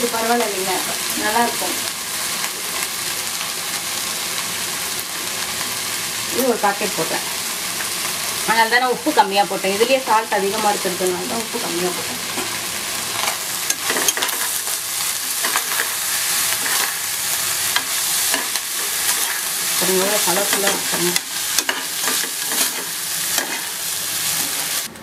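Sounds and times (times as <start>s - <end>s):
rice and vegetables sizzling: 0.0s - 24.9s.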